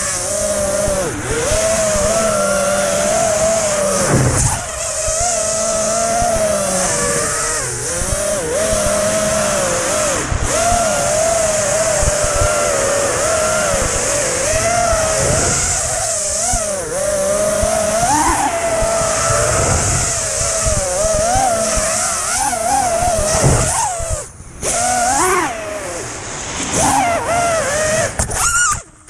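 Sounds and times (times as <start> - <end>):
drone motors and propellers whining: 0.0 - 29.0.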